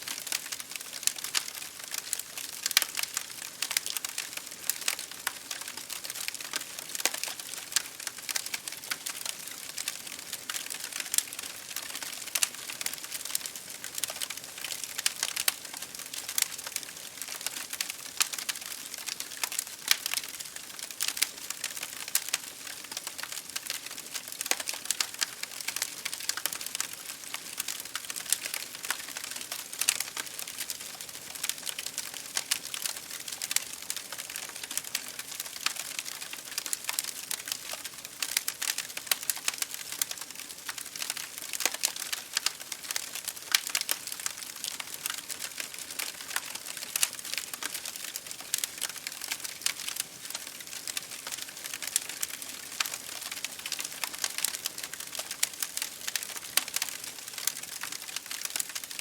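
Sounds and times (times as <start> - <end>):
rain on a window pane: 0.0 - 59.0
wood fire crackling: 0.0 - 59.0.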